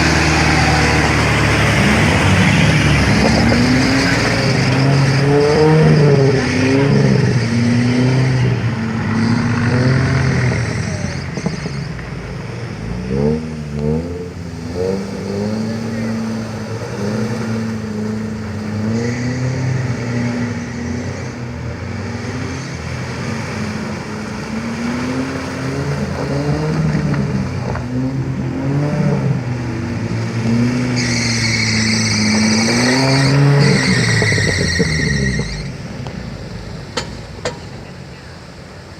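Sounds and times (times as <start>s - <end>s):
off-road engine revving: 0.0s - 38.9s.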